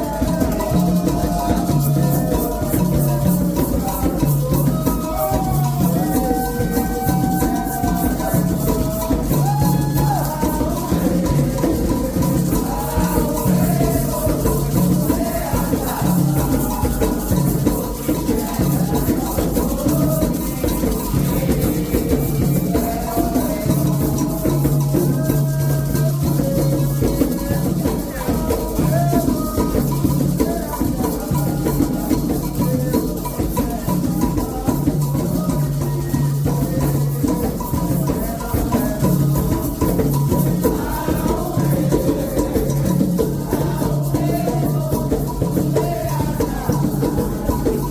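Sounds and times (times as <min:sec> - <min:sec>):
group singing: 0:00.0 - 0:47.9
hand drums: 0:00.0 - 0:47.9
shaken rattles: 0:00.0 - 0:47.9.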